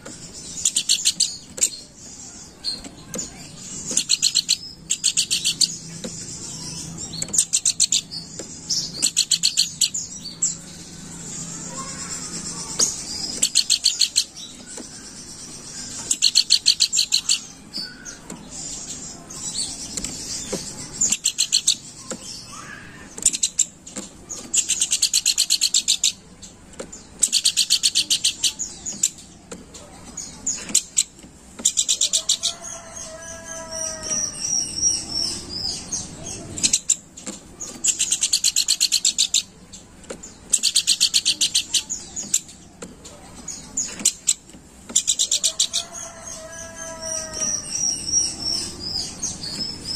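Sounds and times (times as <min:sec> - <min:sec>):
bird chattering trills: 0:00.0 - 0:49.9.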